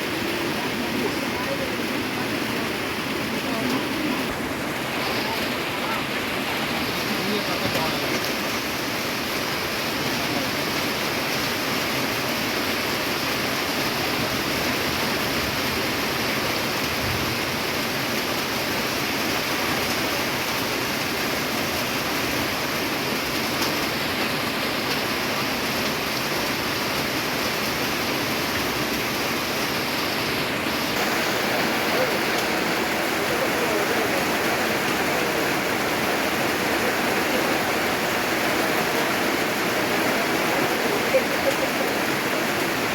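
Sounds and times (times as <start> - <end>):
heavy rain on a tin roof: 0.0 - 42.9.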